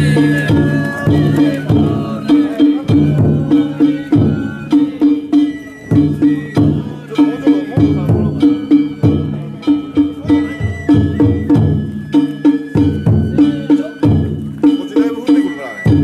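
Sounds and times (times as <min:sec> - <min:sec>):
taiko drum strikes: 0:00.0 - 0:15.1.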